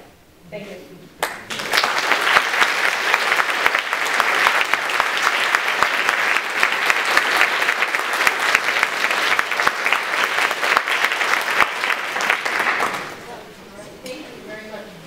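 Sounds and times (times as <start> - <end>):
audience applauding: 1.2 - 13.3.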